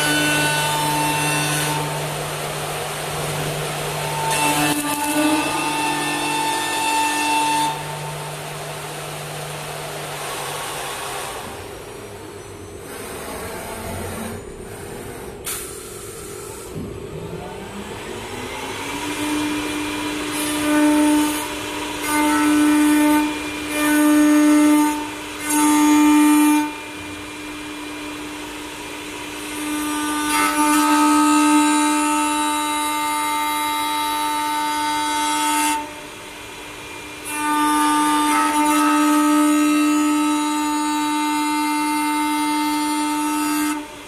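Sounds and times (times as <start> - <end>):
lathe cutting wood: 0.0 - 12.0, 17.4 - 44.0
lathe motor whine: 0.0 - 15.5, 16.2 - 44.0.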